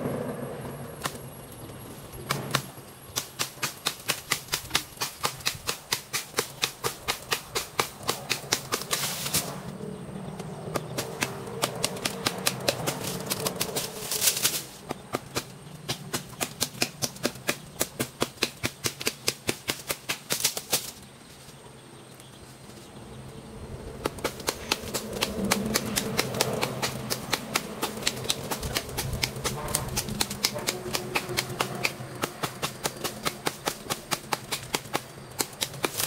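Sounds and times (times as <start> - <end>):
hand saw cutting branch: 2.3 - 9.6, 10.8 - 20.9, 24.0 - 36.0.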